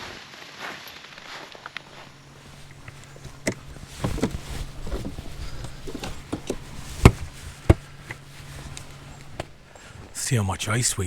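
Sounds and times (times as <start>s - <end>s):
footsteps on snow and ice: 0.0s - 11.0s.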